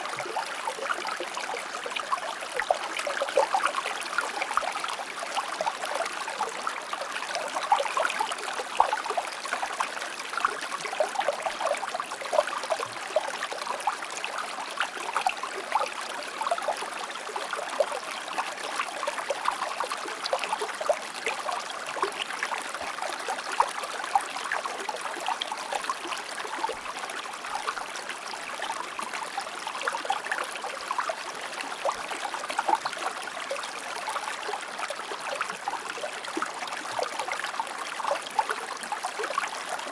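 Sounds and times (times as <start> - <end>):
stream flowing with splashes: 0.0 - 39.9.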